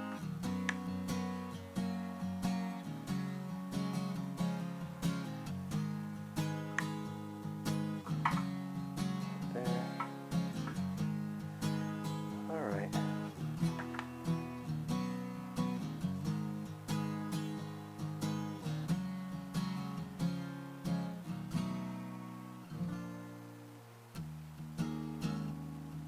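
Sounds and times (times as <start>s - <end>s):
acoustic guitar picking and strumming: 0.0s - 26.0s.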